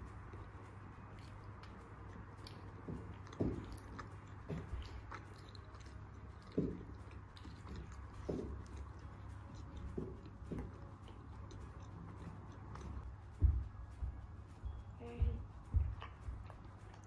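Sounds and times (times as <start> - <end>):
low steady hum: 0.0 - 17.0
person chewing food: 0.1 - 14.8, 15.6 - 17.0.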